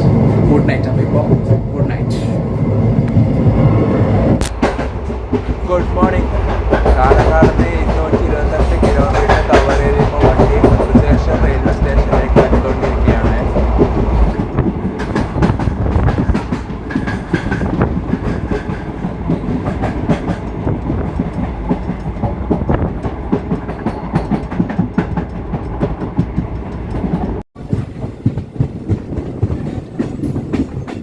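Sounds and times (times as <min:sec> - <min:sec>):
train rumble: 0:00.0 - 0:31.0.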